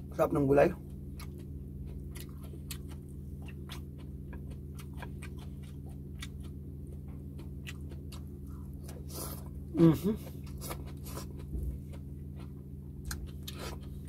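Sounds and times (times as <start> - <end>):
steady low hum: 0.0 - 14.0
chewing with wet mouth clicks: 0.8 - 9.6, 10.2 - 14.0.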